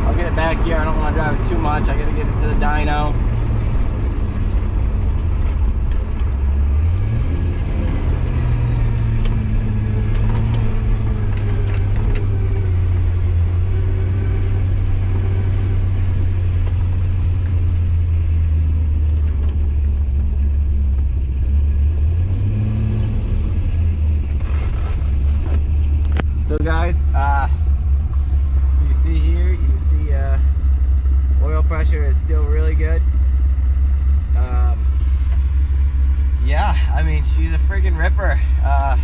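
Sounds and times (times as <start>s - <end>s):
car engine droning: 0.0s - 39.0s.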